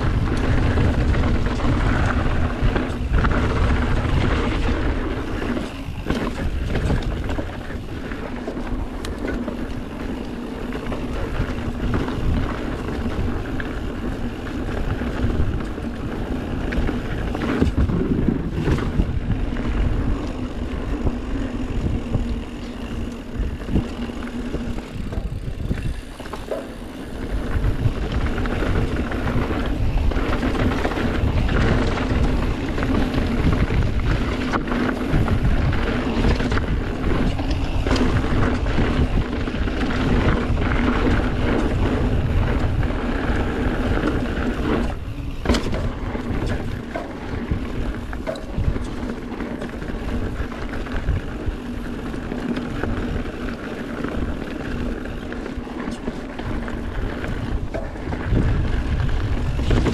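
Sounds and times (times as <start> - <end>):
bike frame rattling: 0.0 - 59.9
bike tyre rumble on dirt: 0.0 - 59.9
wind on microphone: 0.0 - 59.9.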